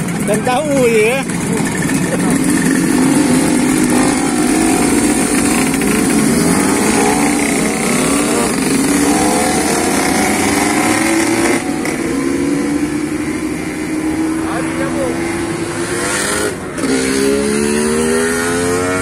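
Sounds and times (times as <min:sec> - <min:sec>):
two-stroke motorcycles revving: 0:00.0 - 0:19.0.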